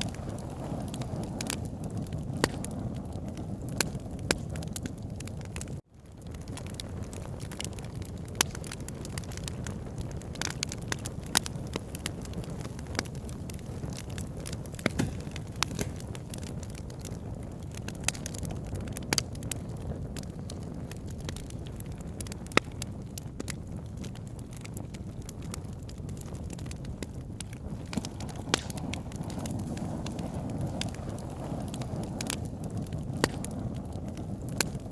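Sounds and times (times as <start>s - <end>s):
campfire crackling and popping: 0.0s - 34.9s
fire low rumble: 0.0s - 34.9s.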